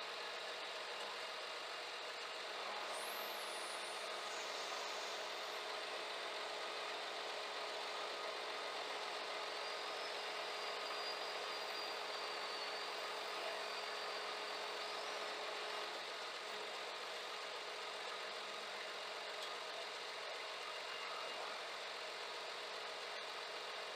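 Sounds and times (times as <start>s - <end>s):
faint high whine: 0.0s - 23.9s.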